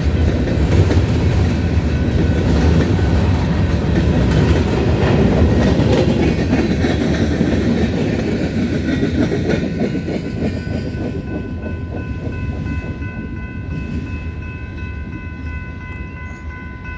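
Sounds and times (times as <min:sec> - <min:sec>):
freight train rolling past: 0:00.0 - 0:16.9.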